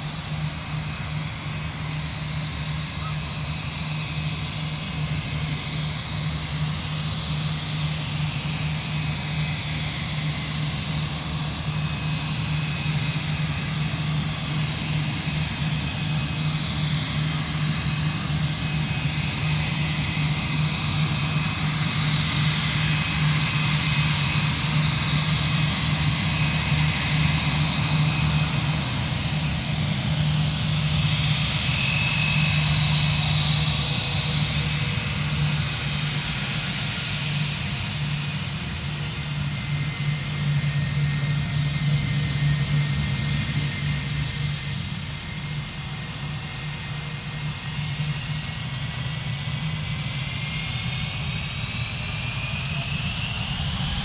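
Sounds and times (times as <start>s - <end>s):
jet engines idling: 0.0s - 54.0s.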